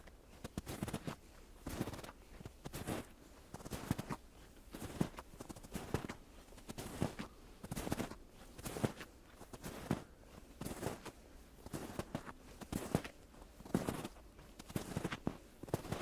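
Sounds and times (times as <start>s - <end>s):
footsteps crunching in snow: 0.0s - 16.0s.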